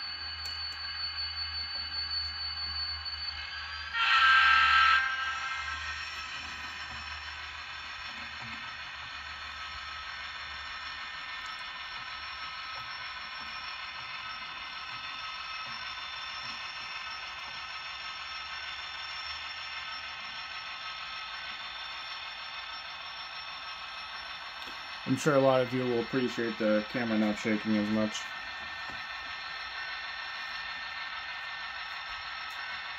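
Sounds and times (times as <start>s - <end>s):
model locomotive humming: 0.0s - 32.9s.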